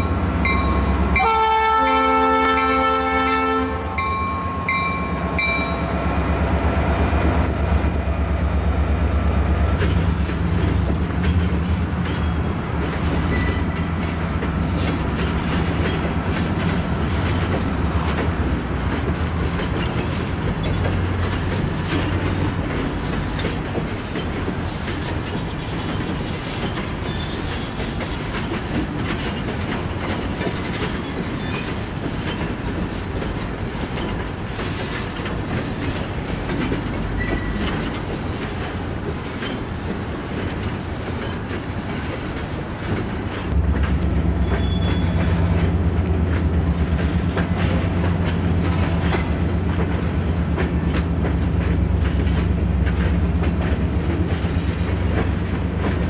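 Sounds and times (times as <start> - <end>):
freight train cars rumbling: 0.0 - 56.0
wheels clicking over rail joints: 9.6 - 56.0.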